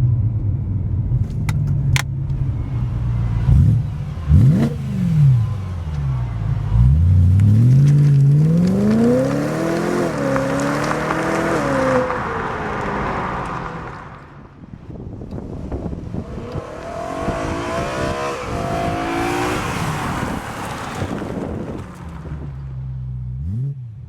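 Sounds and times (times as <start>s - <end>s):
car engine passing by: 2.4s - 23.9s.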